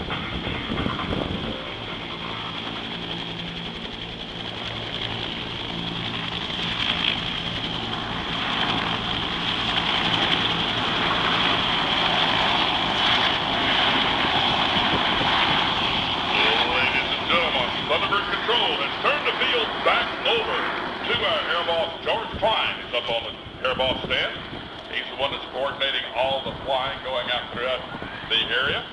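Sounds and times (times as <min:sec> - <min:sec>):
helicopter rotor throb: 0:00.0 - 0:28.9
high turbine whine: 0:00.0 - 0:28.9.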